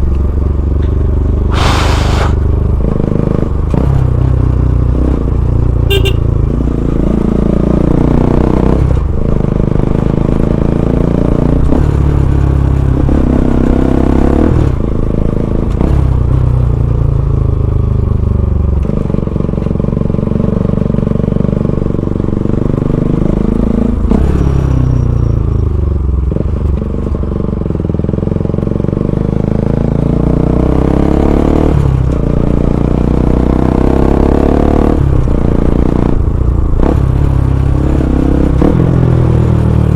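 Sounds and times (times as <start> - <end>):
motorcycle engine revving: 0.5 - 16.8, 18.6 - 39.9.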